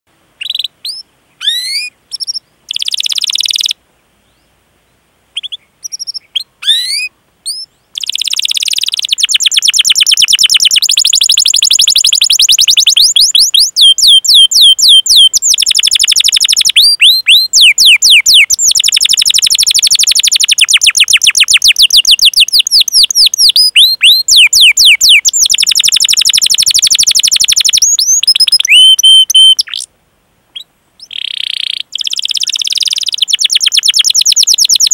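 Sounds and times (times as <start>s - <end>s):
canary singing: 0.4s - 3.8s, 5.4s - 29.9s, 30.5s - 34.9s.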